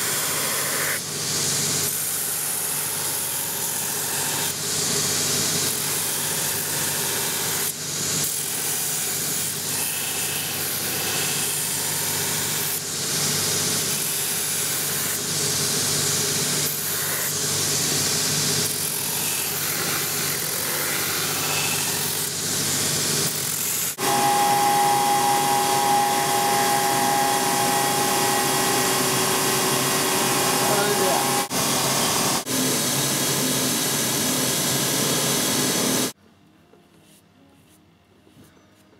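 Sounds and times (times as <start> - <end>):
edge-trimming cutter whine: 0.0 - 36.2
sanding wheel grinding leather: 3.5 - 36.2.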